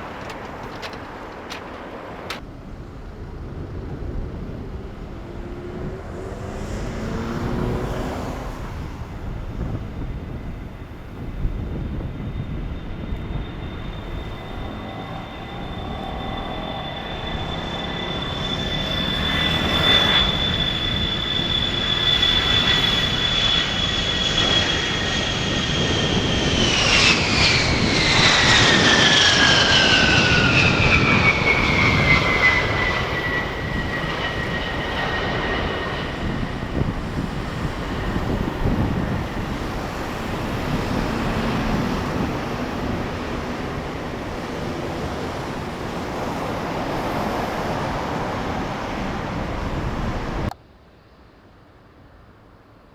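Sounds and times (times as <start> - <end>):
jet engine whine passing: 0.0 - 50.6.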